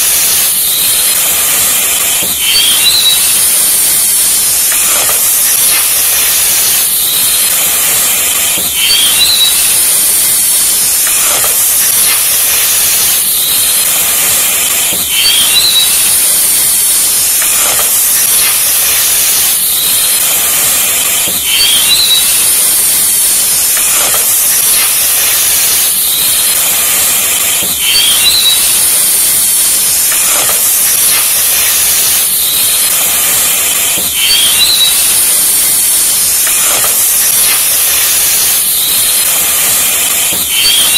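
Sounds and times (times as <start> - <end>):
loud steady hissing: 0.0 - 40.9.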